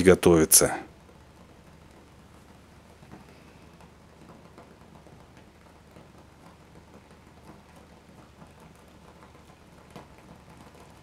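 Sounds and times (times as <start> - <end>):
egg frying in oil: 0.0 - 11.0.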